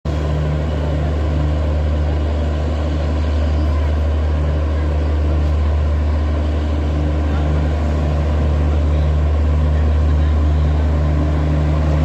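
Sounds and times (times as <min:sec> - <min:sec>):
diesel generator humming: 0:00.1 - 0:12.0.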